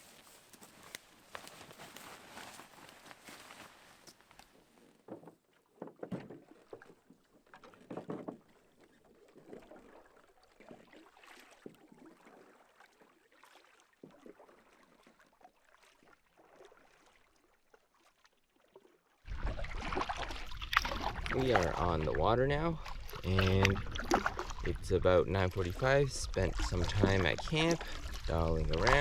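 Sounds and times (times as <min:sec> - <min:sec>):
paddle swishing through water: 0:00.0 - 0:29.0.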